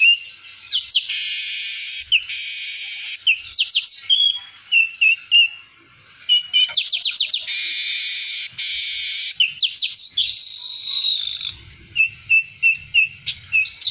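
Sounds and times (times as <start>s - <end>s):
weaver bird singing: 0.0s - 5.6s, 6.2s - 13.9s.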